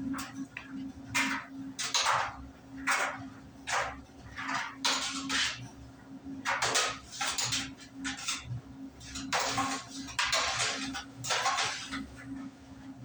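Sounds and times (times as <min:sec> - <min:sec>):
dryer motor hum: 0:00.0 - 0:13.0.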